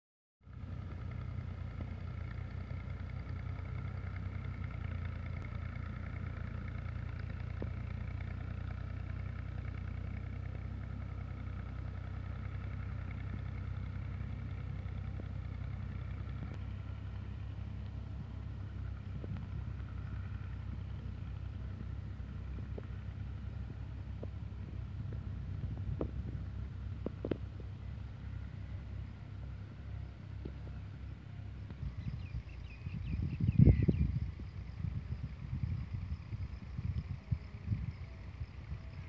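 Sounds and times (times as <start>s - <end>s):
motor engine droning: 0.4s - 39.0s.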